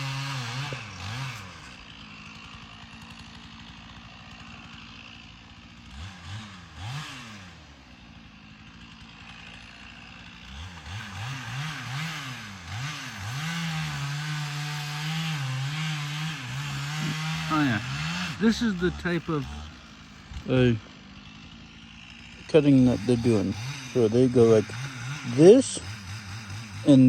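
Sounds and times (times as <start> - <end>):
chainsaw idling and revving: 0.0 - 27.0.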